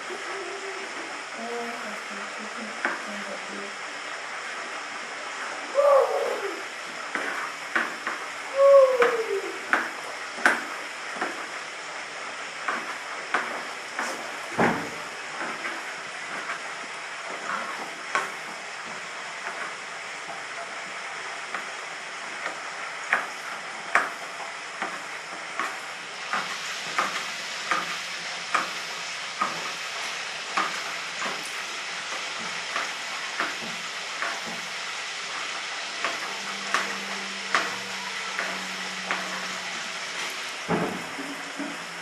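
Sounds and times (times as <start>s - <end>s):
chicken frying in hot oil: 0.0s - 42.0s.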